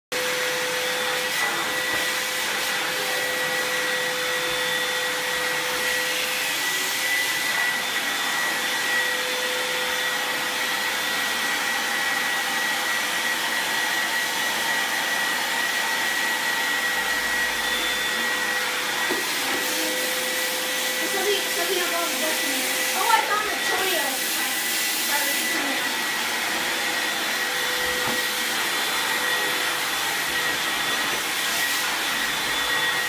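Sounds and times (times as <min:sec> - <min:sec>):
vacuum cleaner running: 0:00.1 - 0:33.0.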